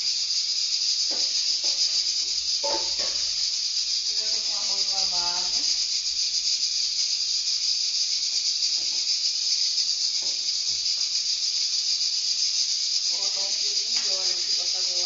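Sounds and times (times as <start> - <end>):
fat sizzling in a frying pan: 0.0 - 15.0.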